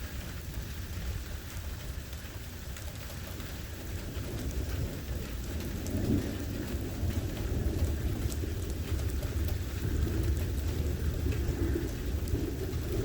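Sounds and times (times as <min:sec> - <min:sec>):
rain falling: 0:00.0 - 0:13.0
raindrops ticking: 0:00.0 - 0:13.0
thunder rumbling: 0:00.0 - 0:13.0.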